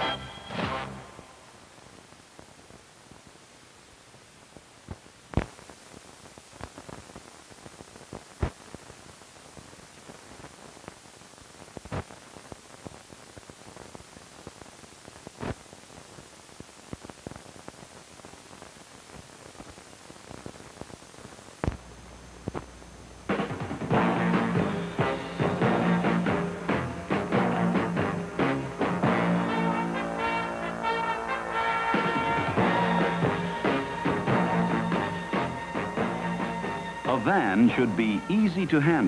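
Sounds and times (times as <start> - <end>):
film soundtrack hiss: 0.0 - 39.0.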